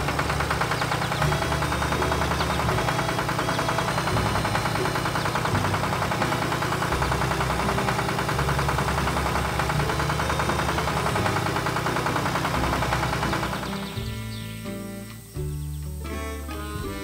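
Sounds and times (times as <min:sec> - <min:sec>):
heavy machine engine knocking: 0:00.0 - 0:14.4.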